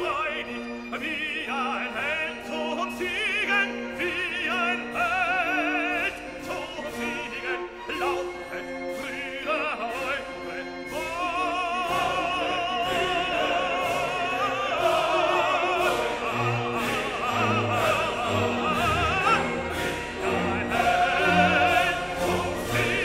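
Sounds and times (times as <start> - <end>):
opera singing with orchestra: 0.0 - 23.0.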